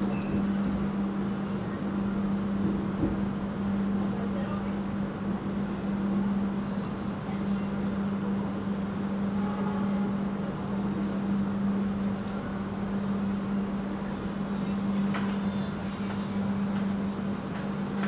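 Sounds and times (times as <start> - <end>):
constant low hum: 0.0 - 18.0
train carriage running rumble: 0.0 - 18.0.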